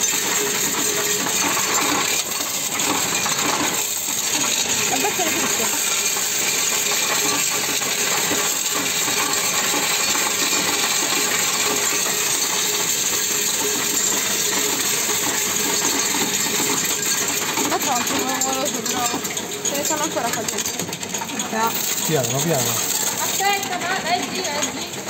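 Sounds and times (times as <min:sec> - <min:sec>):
coins clattering in counting machine: 0:00.0 - 0:25.0.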